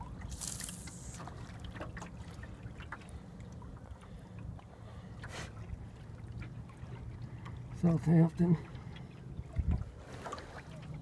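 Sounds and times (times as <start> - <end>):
water lapping along hull: 0.0 - 11.0
water splashes: 0.0 - 11.0.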